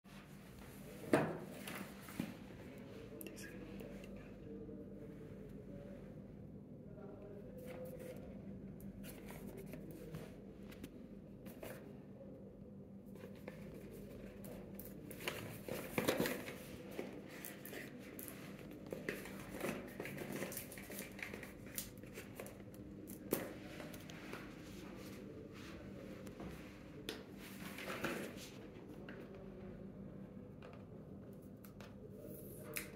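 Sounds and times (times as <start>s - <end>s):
low room hum: 0.1s - 32.9s.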